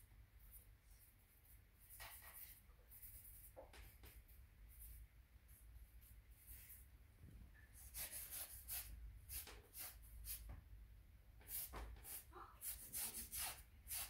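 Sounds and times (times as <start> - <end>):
paintbrush swishing on paper: 0.4 - 7.0, 7.8 - 10.5, 11.4 - 14.0.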